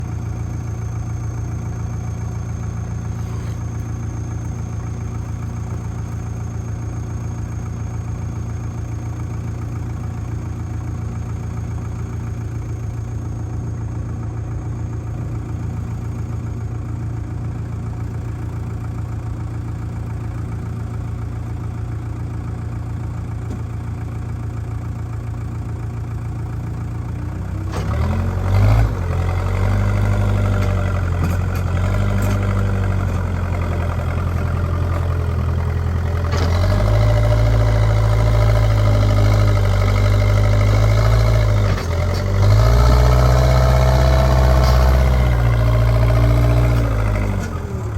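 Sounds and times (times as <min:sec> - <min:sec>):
diesel engine idling and revving: 0:00.0 - 0:47.9.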